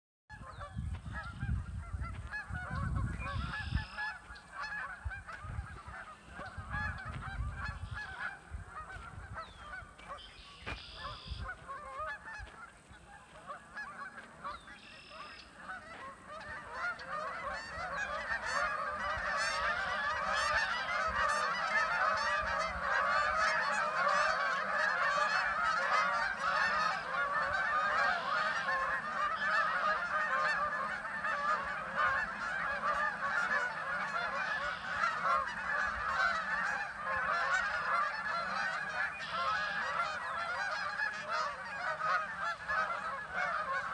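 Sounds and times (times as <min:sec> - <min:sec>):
geese honking: 0:00.3 - 0:43.9.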